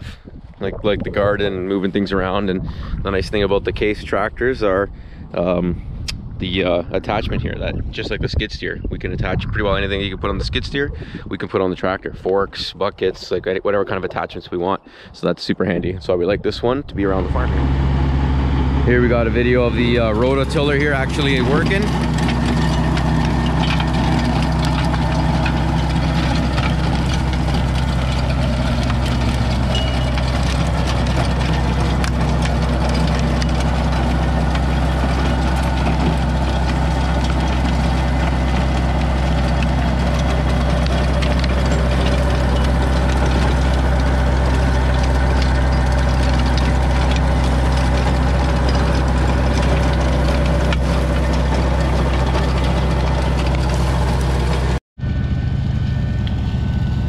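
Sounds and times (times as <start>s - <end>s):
tractor diesel engine running: 0.0s - 12.0s, 16.9s - 57.0s.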